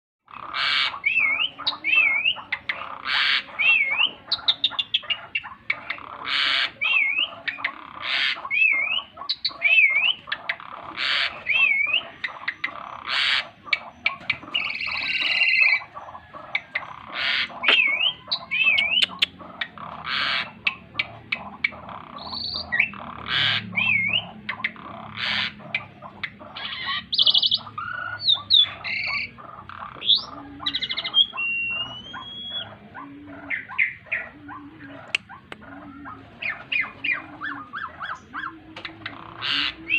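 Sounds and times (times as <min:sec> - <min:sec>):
starling singing: 0:00.3 - 0:39.9.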